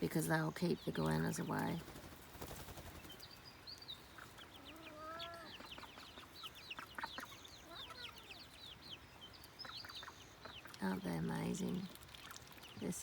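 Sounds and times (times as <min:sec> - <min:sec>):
chicks peeping: 0:00.1 - 0:13.0.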